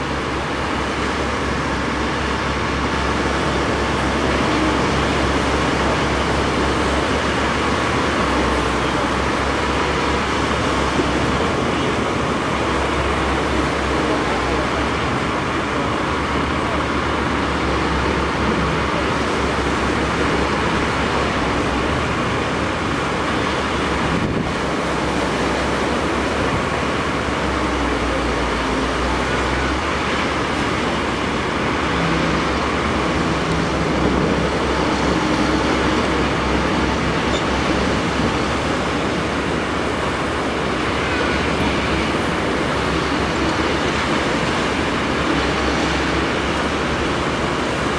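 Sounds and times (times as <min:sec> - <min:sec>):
diesel engines running: 0:00.0 - 0:47.9
surf washing on shore: 0:00.0 - 0:47.9.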